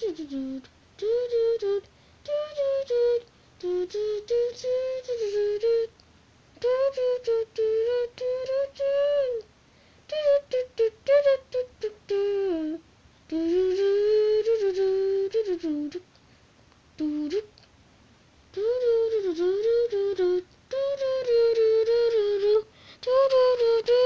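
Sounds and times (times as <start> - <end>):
person humming a tune: 0.0 - 5.9, 6.6 - 9.5, 10.1 - 16.1, 17.0 - 17.7, 18.5 - 24.0.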